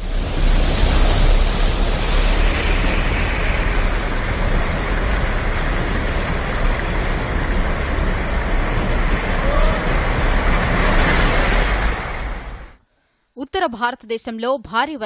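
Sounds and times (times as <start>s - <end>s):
deep rumble: 0.0s - 12.8s
river rushing in flood: 0.0s - 12.8s.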